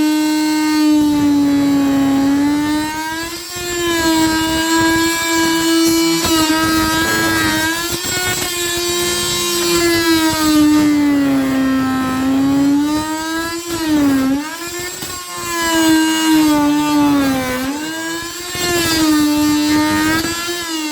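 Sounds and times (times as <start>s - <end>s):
power tool motor whining: 0.0s - 20.9s.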